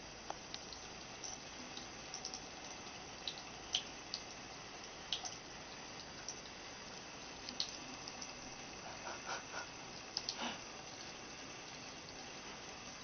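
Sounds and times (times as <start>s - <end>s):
water drip ticks: 0.2s - 13.0s.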